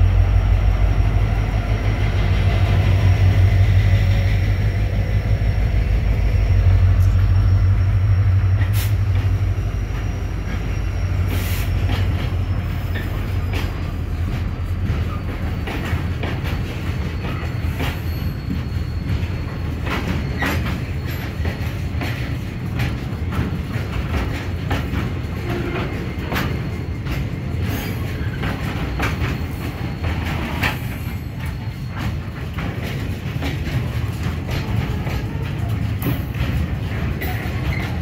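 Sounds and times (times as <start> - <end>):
freight train rumbling past: 0.0 - 38.0
wheels clacking over rail joints: 0.0 - 38.0.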